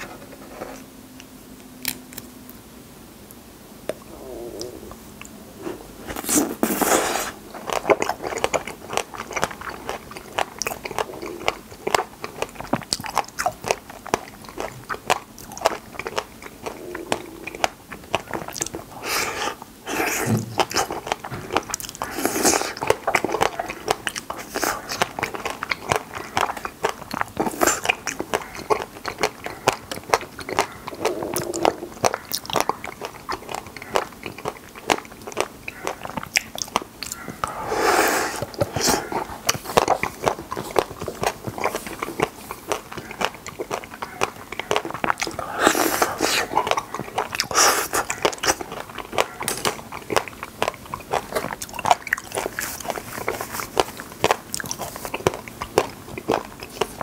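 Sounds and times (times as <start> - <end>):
chewing raspberries: 3.3 - 57.0.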